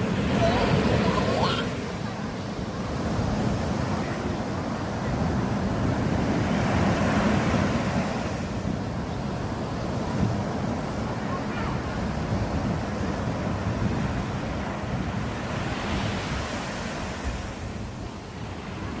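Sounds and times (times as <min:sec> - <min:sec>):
sea waves washing in: 0:00.0 - 0:19.0
wind buffeting microphone: 0:00.0 - 0:19.0.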